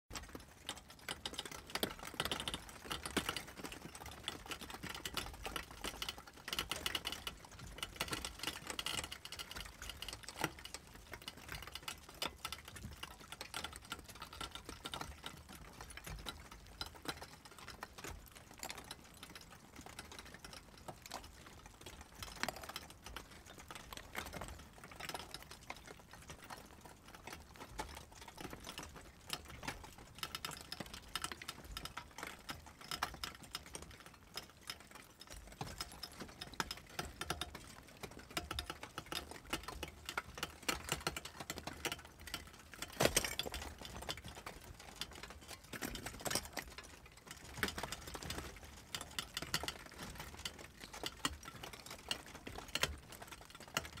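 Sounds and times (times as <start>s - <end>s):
lava crust crackling and clinking: 0.1s - 54.0s.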